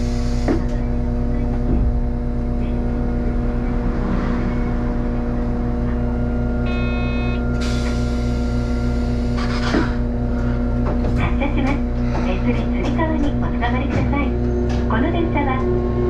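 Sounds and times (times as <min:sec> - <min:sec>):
tram electrical hum: 0:00.0 - 0:16.0.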